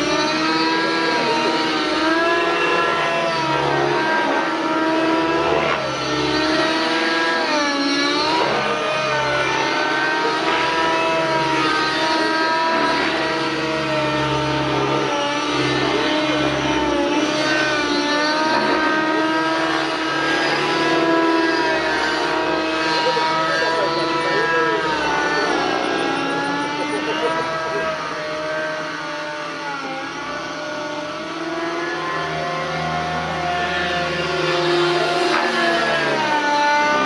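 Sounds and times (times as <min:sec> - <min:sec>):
model helicopter engine high revs: 0:00.0 - 0:37.0.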